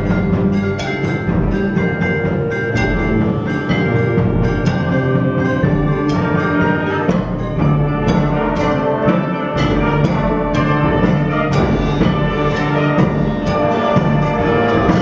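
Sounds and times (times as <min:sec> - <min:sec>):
concert band playing: 0:00.0 - 0:15.0
drum and percussion strokes: 0:00.0 - 0:15.0.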